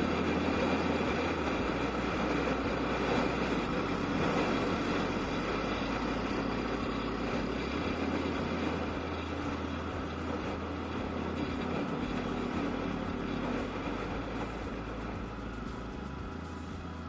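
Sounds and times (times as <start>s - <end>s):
road and wind noise: 0.0s - 17.0s
scooter engine droning: 0.0s - 17.0s.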